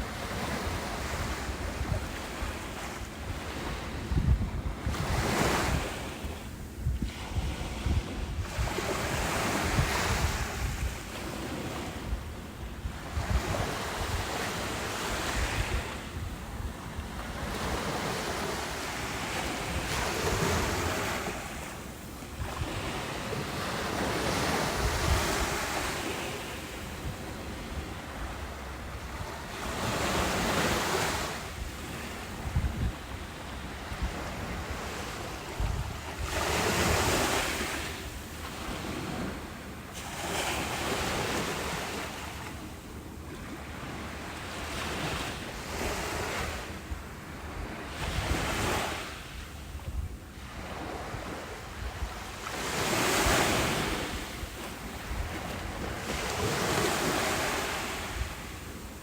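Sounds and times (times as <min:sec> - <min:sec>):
wind buffeting microphone: 0:00.0 - 0:39.5, 0:45.0 - 0:59.0
ocean waves breaking on beach: 0:00.0 - 0:59.0.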